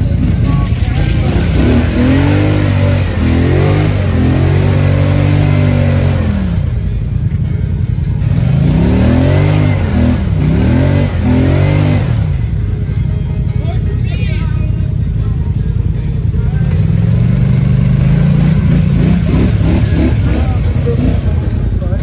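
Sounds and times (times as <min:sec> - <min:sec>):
quad engine revving: 0:00.0 - 0:07.5, 0:08.1 - 0:12.9, 0:16.2 - 0:22.0.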